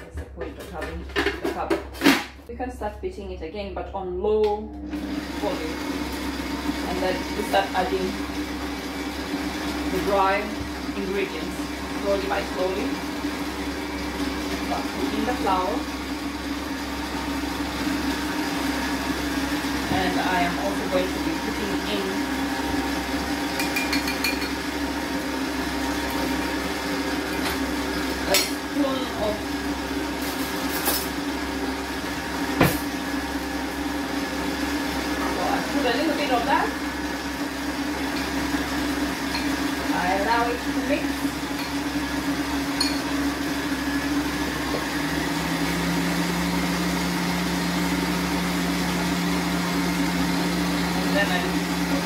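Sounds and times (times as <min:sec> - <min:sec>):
stand mixer motor running: 0:04.8 - 0:52.0.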